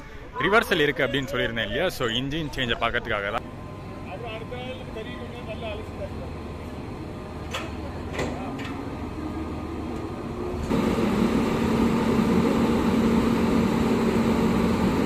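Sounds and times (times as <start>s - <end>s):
locomotive hum and fan noise: 0.0s - 15.0s.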